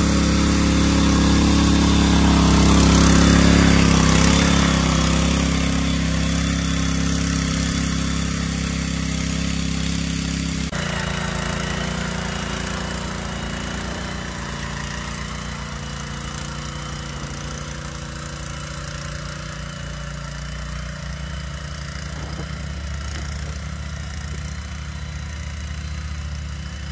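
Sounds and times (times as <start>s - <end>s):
tiller petrol engine running: 0.0s - 26.9s.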